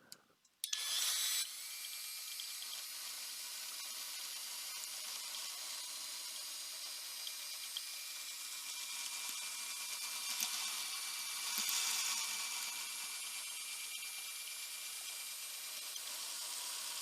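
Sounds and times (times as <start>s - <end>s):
drill sanding disc on wood: 0.7s - 17.0s.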